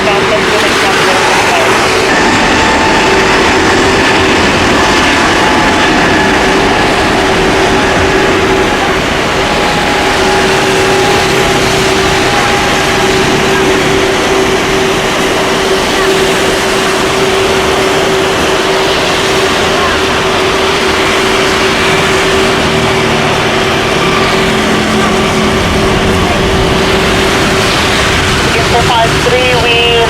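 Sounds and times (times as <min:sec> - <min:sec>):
airliner engines roaring: 0:00.0 - 0:30.0.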